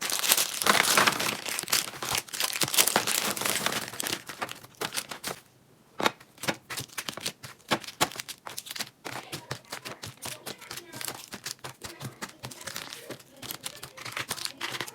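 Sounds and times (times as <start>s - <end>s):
packaging crinkling: 0.0s - 5.4s, 6.0s - 14.9s.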